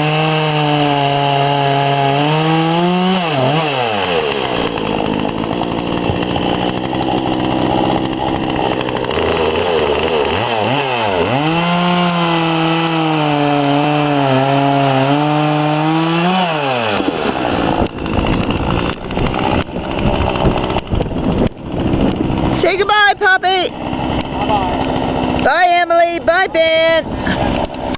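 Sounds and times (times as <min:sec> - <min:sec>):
chainsaw cutting wood: 0:00.0 - 0:27.9.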